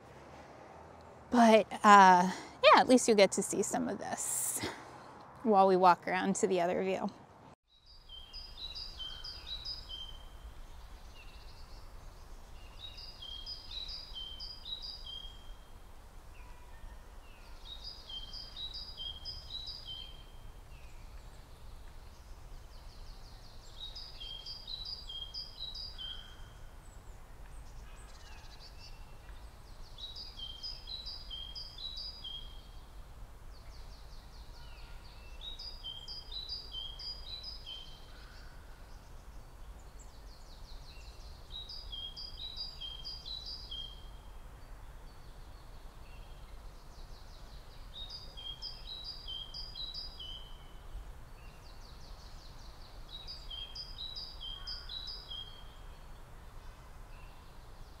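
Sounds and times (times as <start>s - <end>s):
songbird singing: 5.3s - 58.0s.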